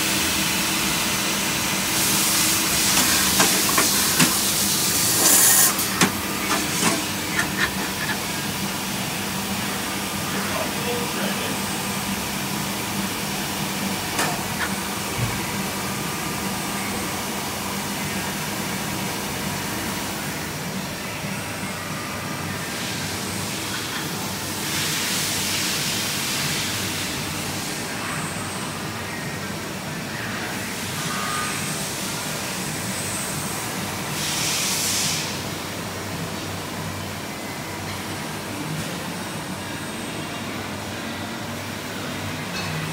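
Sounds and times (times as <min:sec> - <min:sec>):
lathe humming and hissing: 0:00.0 - 0:42.9.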